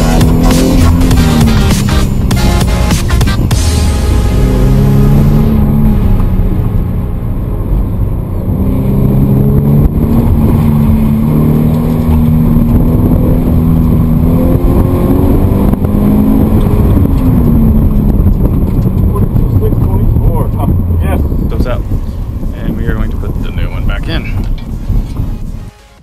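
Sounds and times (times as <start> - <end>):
car engine pulling hard: 0.0 - 25.6.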